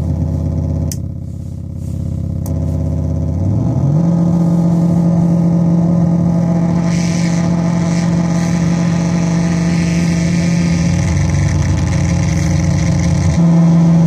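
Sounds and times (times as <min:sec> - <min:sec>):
synth drone: 0:02.4 - 0:14.0.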